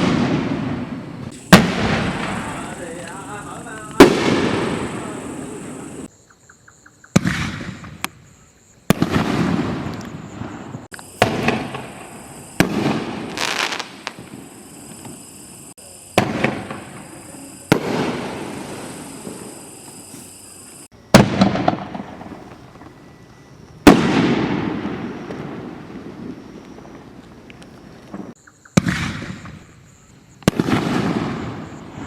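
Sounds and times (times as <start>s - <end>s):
firework bangs: 0.0s - 6.1s, 7.1s - 8.2s, 8.9s - 23.0s, 23.8s - 32.0s.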